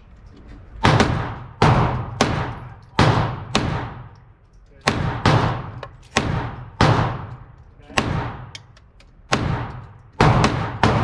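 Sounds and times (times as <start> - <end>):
handgun shots echoing: 0.8 - 11.0.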